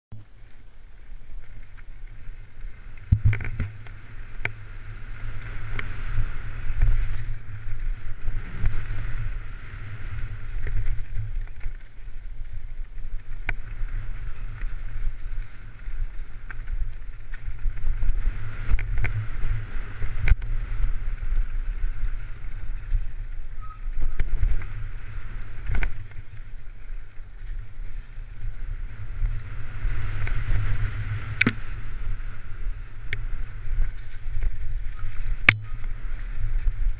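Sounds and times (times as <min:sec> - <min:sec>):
wind buffeting microphone: 0:00.2 - 0:36.9.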